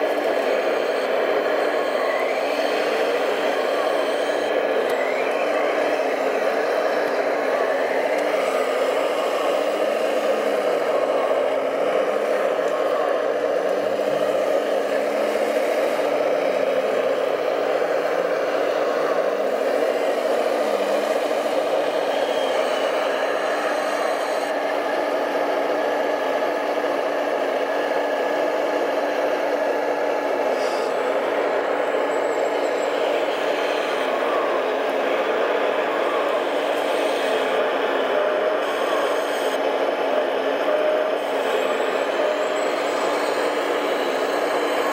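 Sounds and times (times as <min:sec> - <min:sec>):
toy excavator motors whirring: 0:00.0 - 0:44.9.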